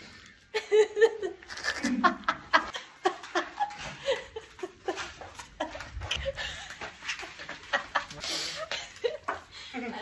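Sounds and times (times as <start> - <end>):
woman laughing: 0.5 - 10.0.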